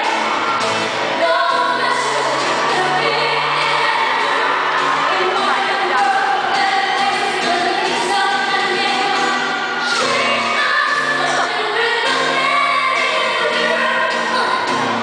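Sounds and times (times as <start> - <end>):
singers singing in harmony: 0.0 - 15.0.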